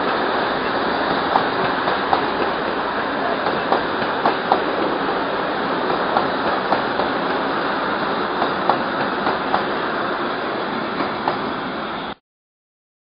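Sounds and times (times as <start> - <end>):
train cars clacking: 0.0 - 12.2
train rumbling past: 0.0 - 12.2.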